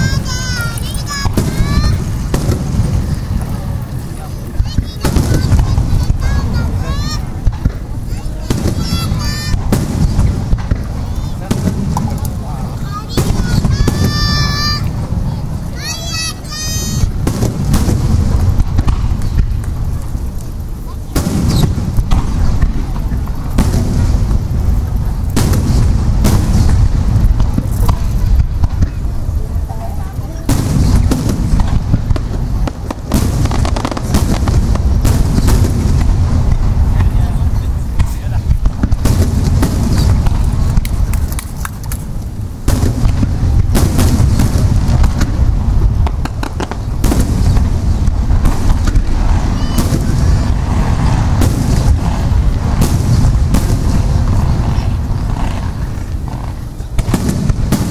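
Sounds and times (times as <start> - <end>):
fireworks booms: 0.0 - 57.9
fireworks rumble and crackle: 0.0 - 57.9.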